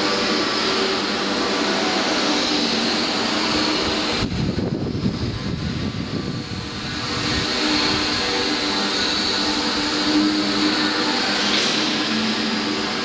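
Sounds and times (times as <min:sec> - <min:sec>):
concrete mixer humming: 0:00.0 - 0:13.0.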